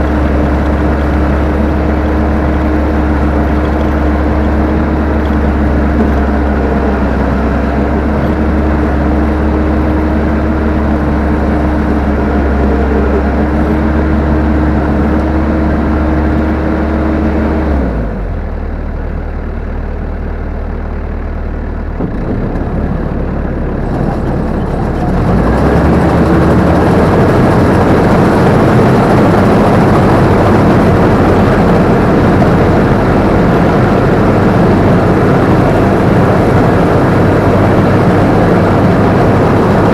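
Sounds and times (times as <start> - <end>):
combine harvester engine and machinery: 0.0 - 39.9.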